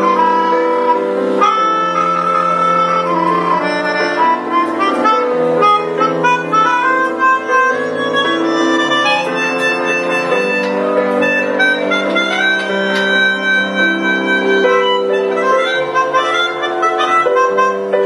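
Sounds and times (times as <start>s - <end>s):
melodica playing a tune: 0.0s - 18.0s.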